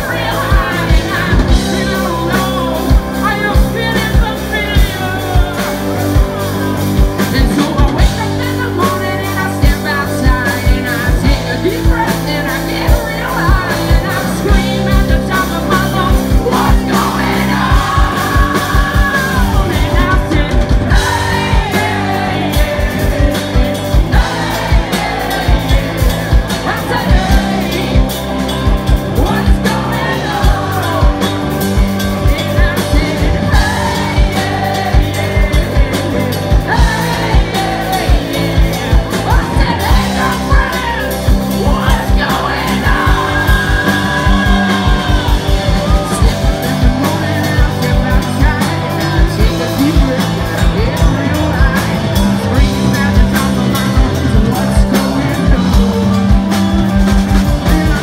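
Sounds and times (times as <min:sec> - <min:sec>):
drum kit: 0:00.0 - 0:58.0
rock band playing: 0:00.0 - 0:58.0
wavering lead guitar line: 0:00.0 - 0:58.0.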